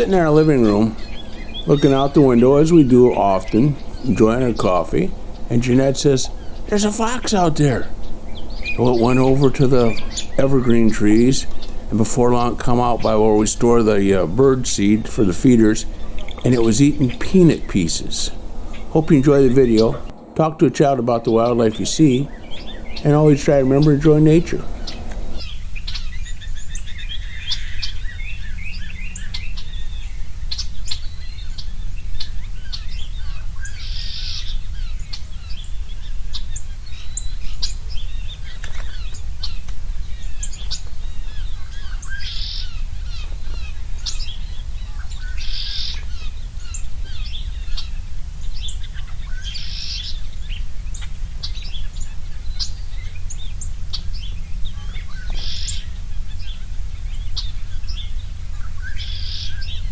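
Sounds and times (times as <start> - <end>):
songbirds chirping: 0.0 - 59.9
steady low rumble: 0.0 - 59.9.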